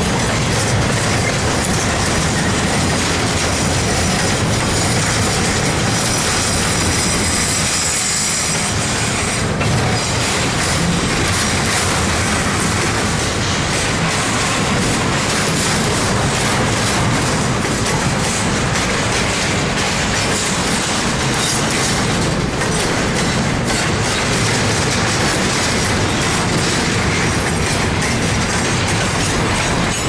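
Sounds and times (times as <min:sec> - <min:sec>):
freight train wheels rumbling on rail: 0:00.0 - 0:30.0
wheels clicking over rail joints: 0:00.0 - 0:30.0.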